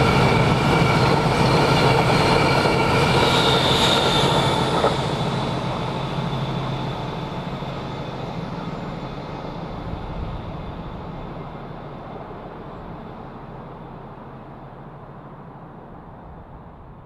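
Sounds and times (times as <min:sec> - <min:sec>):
train engines and wheels droning: 0:00.0 - 0:17.0.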